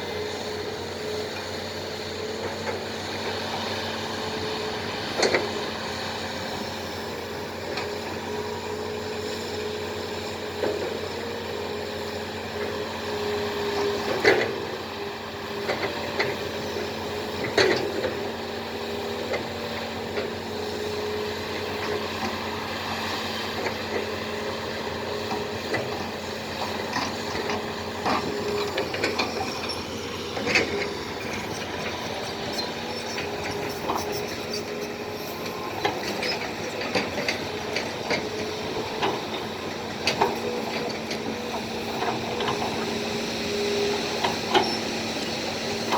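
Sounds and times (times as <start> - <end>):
excavator diesel engines running: 0.0 - 45.9.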